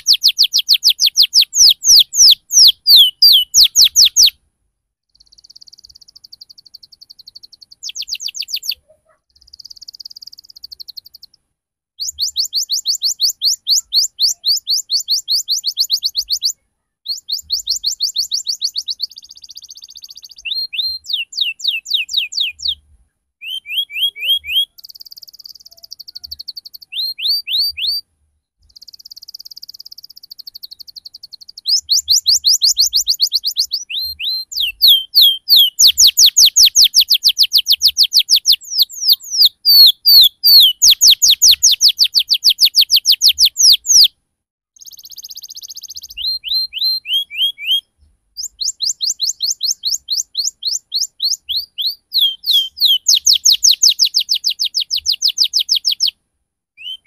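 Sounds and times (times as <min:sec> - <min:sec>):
canary singing: 0:00.0 - 0:04.4, 0:05.1 - 0:11.4, 0:12.0 - 0:44.1, 0:44.8 - 0:56.2, 0:56.8 - 0:57.0.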